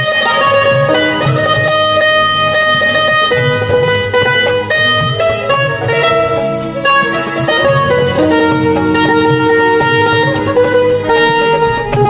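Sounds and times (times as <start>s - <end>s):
mandolin playing slow melody: 0.0s - 12.0s.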